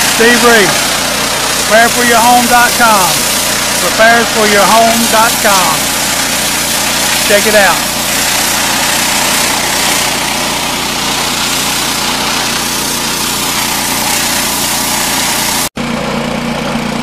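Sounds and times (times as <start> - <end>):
water jet hissing on asphalt: 0.0 - 15.8
pressure washer engine running: 0.0 - 17.0.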